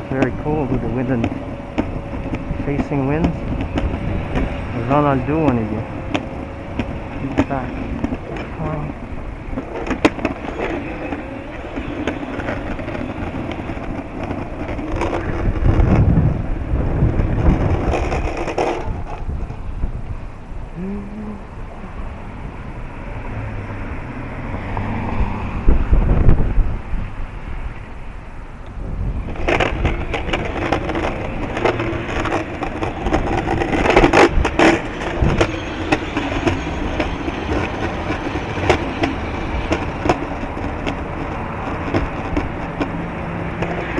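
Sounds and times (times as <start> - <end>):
crackling scraping noise: 0.0 - 22.0, 23.4 - 43.9
wind buffeting microphone: 0.0 - 43.9.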